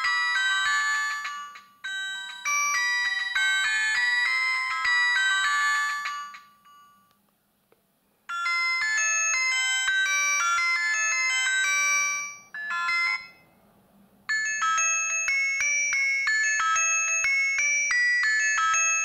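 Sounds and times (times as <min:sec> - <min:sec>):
phone ringtone melody: 0:00.0 - 0:07.1, 0:08.2 - 0:13.6, 0:14.3 - 0:19.0.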